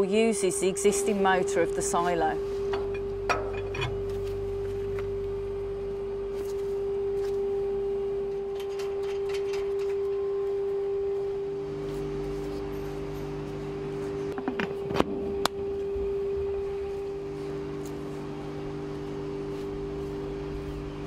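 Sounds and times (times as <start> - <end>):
lower hum: 0.0 - 21.0
steady single-pitched hum: 0.0 - 21.0.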